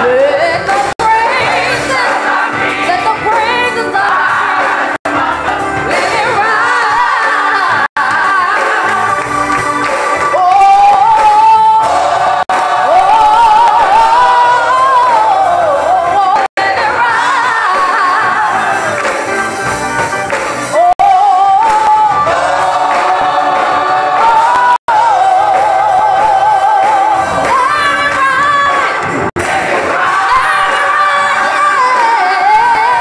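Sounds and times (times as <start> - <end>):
women's choir singing: 0.1 - 9.4, 10.3 - 19.0, 21.0 - 33.0.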